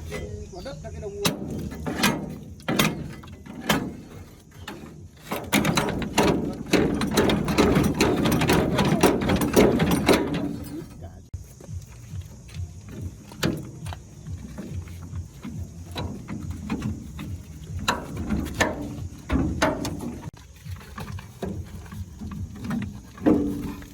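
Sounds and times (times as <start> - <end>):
rapid metal scraping and rattling: 0.0 - 23.9
tools knocking on metal: 1.2 - 11.0, 11.6 - 23.9.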